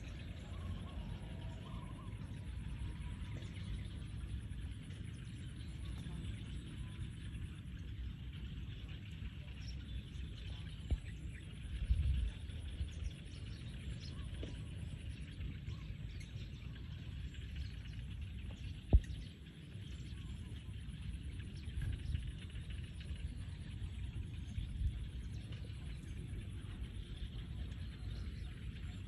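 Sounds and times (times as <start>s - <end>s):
faint bird chirps: 0.0s - 29.0s
low rumble: 0.0s - 29.0s.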